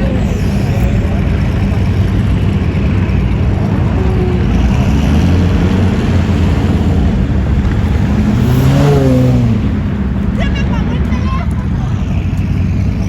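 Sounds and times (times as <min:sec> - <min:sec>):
car engines rumbling: 0:00.0 - 0:13.0
faint engine tone: 0:00.0 - 0:13.0.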